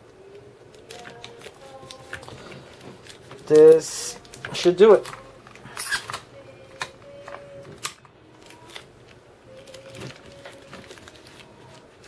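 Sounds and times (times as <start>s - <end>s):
tape and foil crinkling: 0.2s - 12.0s.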